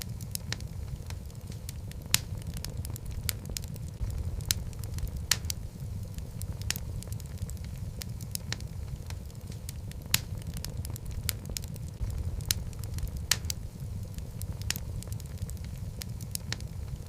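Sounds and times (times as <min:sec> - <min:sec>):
fire crackles and pops: 0:00.0 - 0:17.0
low rumble of flame: 0:00.0 - 0:17.0.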